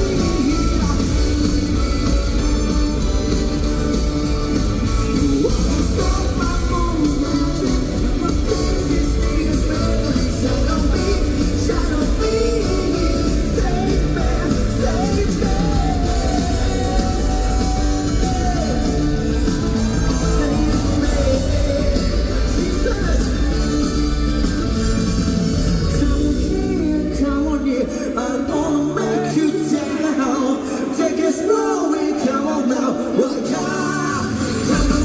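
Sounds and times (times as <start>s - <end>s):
funk-rock band playing: 0.0s - 31.4s, 33.3s - 35.0s.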